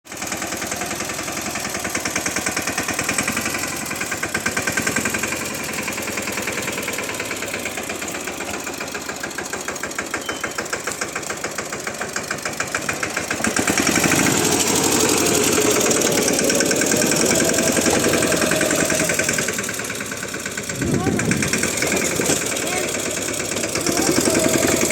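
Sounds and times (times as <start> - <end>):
tractor diesel engine running: 0.1 - 24.9.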